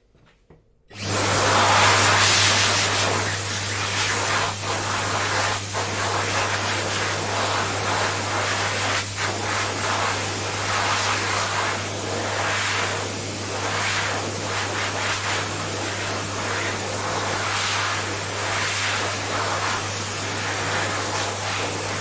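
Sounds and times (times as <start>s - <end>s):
hand dryer blowing air: 0.9s - 22.0s.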